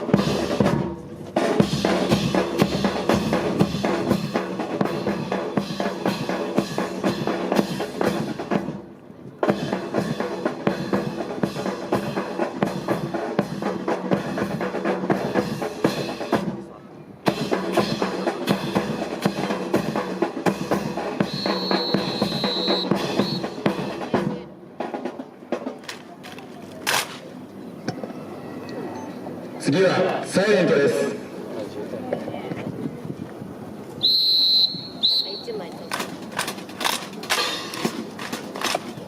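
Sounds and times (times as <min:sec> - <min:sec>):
marching snare and bass drums: 0:00.0 - 0:27.0, 0:34.0 - 0:39.0.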